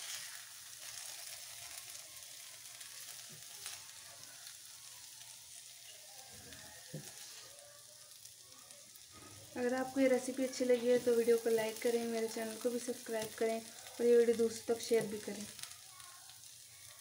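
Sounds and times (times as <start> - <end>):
curry sizzling in frying pan: 0.0 - 17.0.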